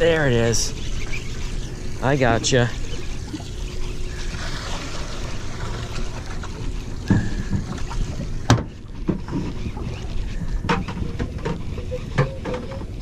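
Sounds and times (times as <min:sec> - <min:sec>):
water against boat hull: 0:00.0 - 0:13.0.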